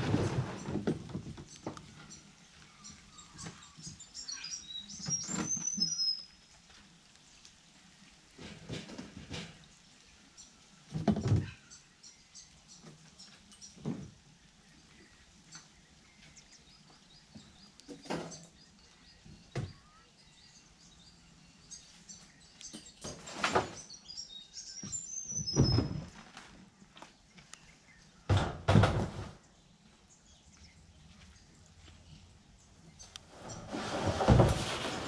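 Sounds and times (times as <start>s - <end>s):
birds chirping: 0.3s - 34.7s.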